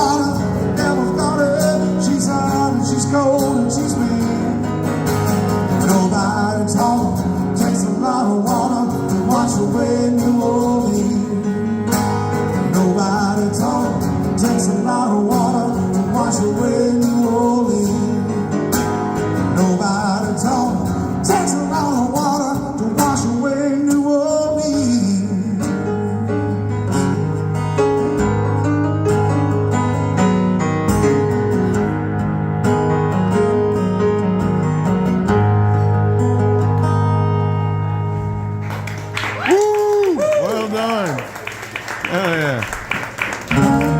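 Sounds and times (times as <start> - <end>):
guitar: 0.0 - 43.9
live country-rock band: 0.0 - 43.9.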